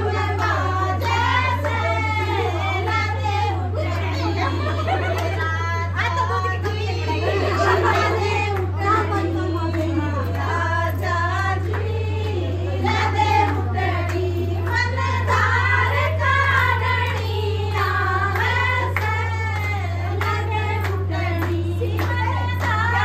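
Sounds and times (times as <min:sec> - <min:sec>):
low hum: 0:00.0 - 0:23.0
women singing folk song: 0:00.0 - 0:23.0.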